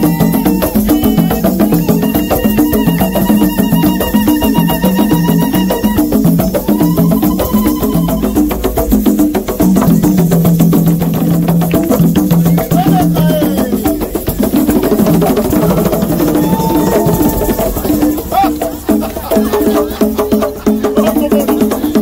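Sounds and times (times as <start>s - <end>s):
fast hand drumming: 0.0s - 22.0s
shaker-like rattle: 0.0s - 22.0s.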